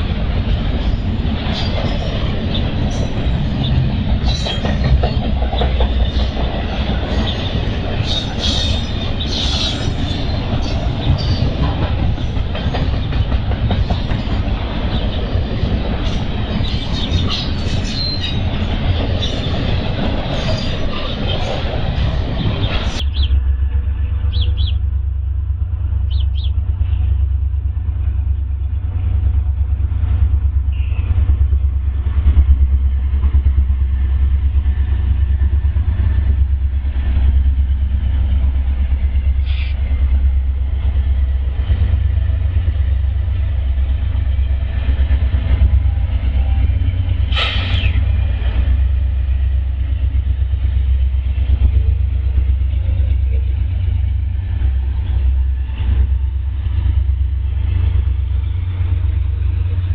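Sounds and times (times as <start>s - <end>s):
diesel locomotive low rumble: 0.0s - 59.9s.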